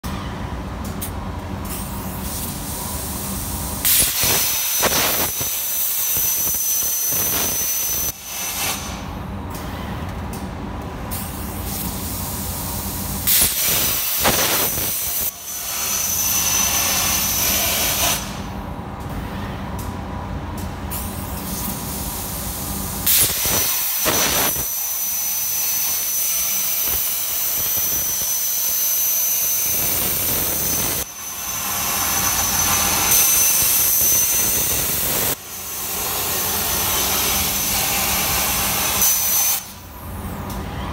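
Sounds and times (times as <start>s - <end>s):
plasma cutter arc hissing: 1.7s - 9.0s, 11.1s - 18.6s, 20.9s - 39.9s.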